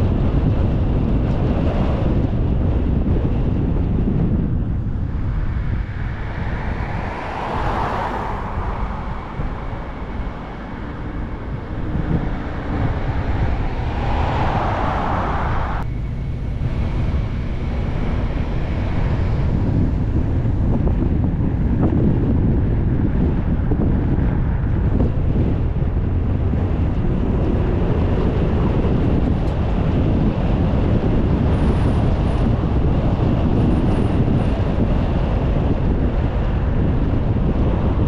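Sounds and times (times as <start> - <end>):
car road noise: 0.0 - 38.0
vehicles passing: 0.0 - 38.0
wind on microphone: 0.0 - 38.0.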